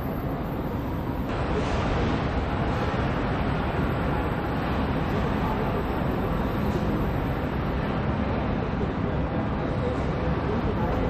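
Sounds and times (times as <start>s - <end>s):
factory hall rushing noise: 0.0s - 11.0s.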